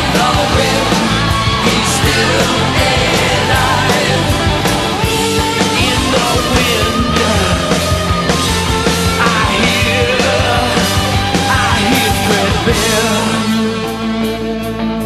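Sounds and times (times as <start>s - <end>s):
person singing: 0.0s - 4.6s, 5.4s - 8.1s, 9.0s - 13.8s
distorted guitars: 0.0s - 15.0s
drums: 0.0s - 15.0s
loud rock music: 0.0s - 15.0s.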